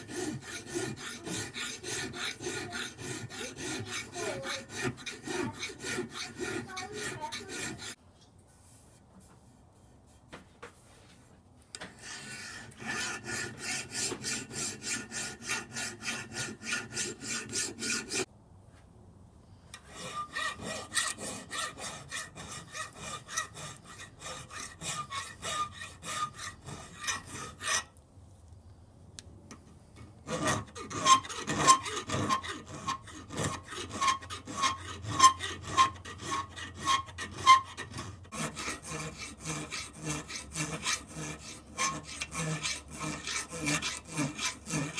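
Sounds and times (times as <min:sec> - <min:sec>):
hand file rasping on metal: 0:00.0 - 0:08.0, 0:11.8 - 0:18.3, 0:19.8 - 0:27.9, 0:29.5 - 0:44.9.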